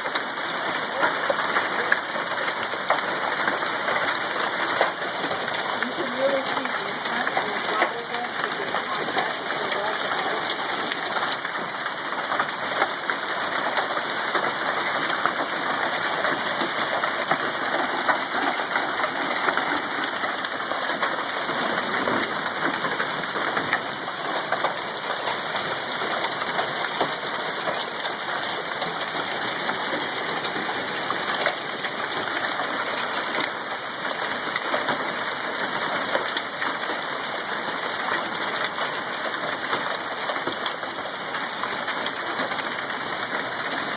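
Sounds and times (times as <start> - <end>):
hailstones ticking: 0.0 - 43.9.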